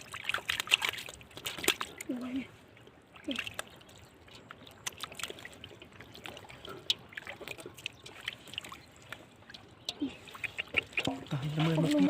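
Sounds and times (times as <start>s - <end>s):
floodwater trickling: 0.0s - 12.0s
small water splashes: 0.0s - 12.0s.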